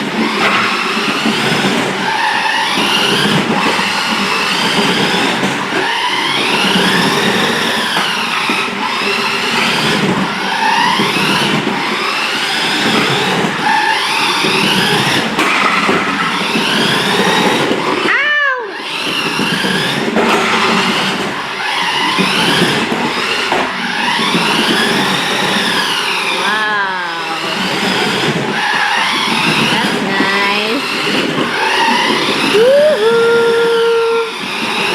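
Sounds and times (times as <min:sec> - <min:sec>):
electric motor whining: 0:00.0 - 0:34.9.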